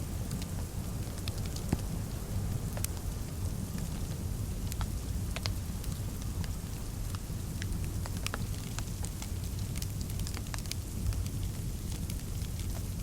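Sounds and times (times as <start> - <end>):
fire crackling and popping: 0.2 - 13.0.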